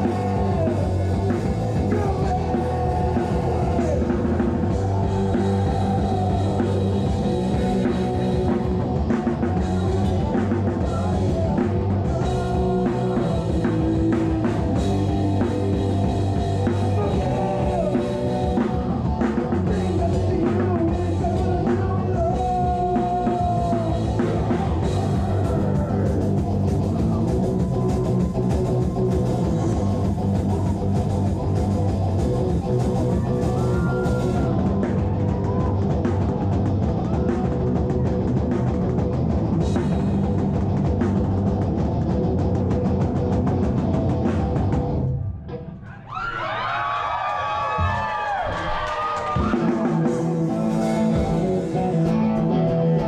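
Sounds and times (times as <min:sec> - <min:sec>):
electric guitar: 0:00.0 - 0:46.0, 0:47.7 - 0:53.0
bass guitar: 0:00.0 - 0:53.0
drums: 0:00.0 - 0:53.0.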